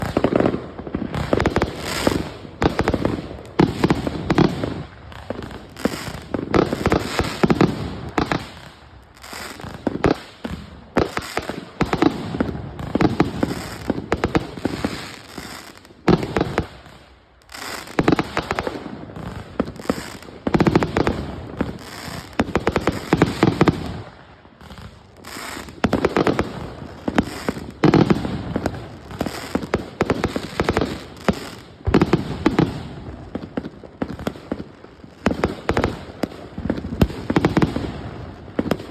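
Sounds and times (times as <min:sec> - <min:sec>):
fireworks bangs and crackling pops: 0:00.0 - 0:38.9.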